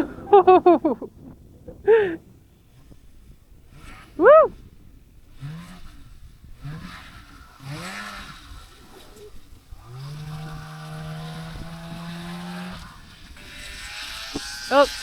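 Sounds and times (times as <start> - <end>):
snowmobile engine revving: 2.8 - 15.0.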